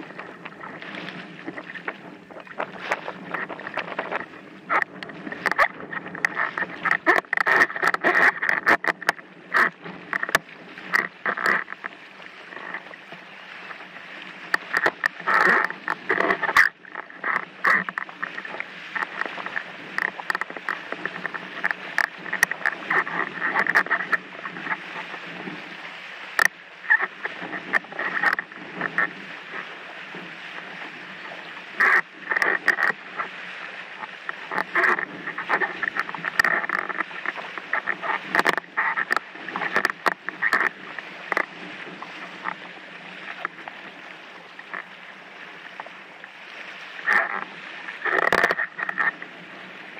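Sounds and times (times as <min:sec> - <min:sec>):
board and rig knocking: 0:00.0 - 0:25.6, 0:26.3 - 0:33.4, 0:34.0 - 0:43.7, 0:47.0 - 0:49.3
water rushing and splashing: 0:00.0 - 0:49.9.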